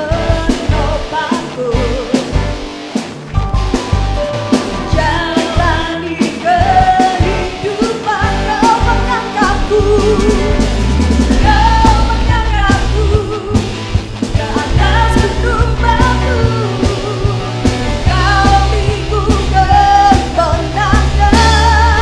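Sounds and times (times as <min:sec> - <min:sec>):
person singing: 0:00.0 - 0:02.6, 0:04.9 - 0:22.0
bass guitar: 0:00.0 - 0:22.0
drum kit: 0:00.0 - 0:22.0
electric guitar: 0:00.0 - 0:22.0
keyboard: 0:00.0 - 0:22.0.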